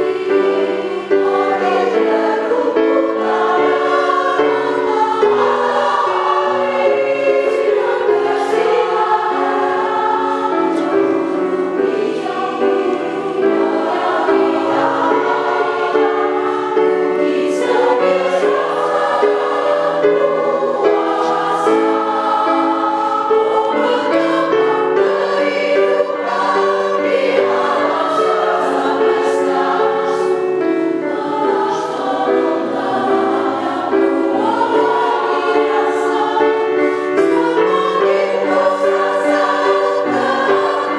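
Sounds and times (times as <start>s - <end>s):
choir singing in parts: 0.0s - 40.9s.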